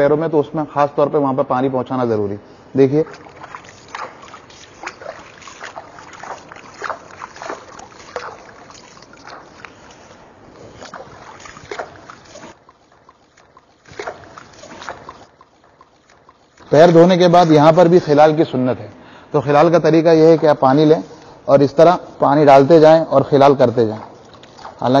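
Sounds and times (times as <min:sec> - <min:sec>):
water splashing and sloshing: 0:02.4 - 0:18.6, 0:20.0 - 0:25.0.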